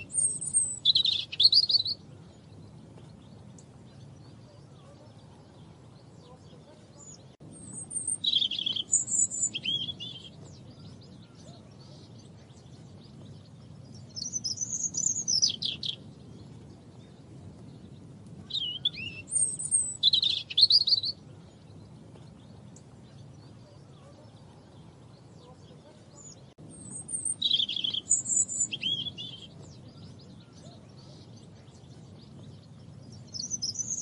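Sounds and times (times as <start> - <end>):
faint low background rush: 0.0 - 34.0
robin singing: 0.0 - 34.0.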